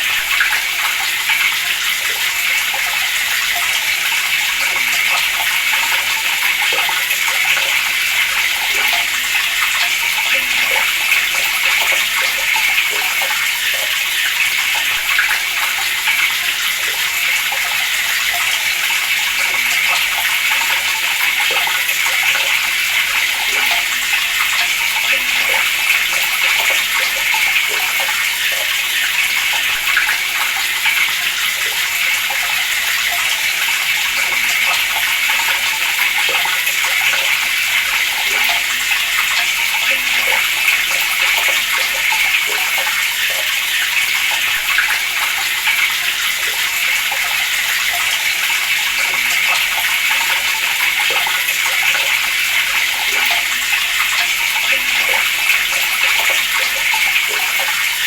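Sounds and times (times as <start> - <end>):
water running from a tap: 0.0 - 58.0.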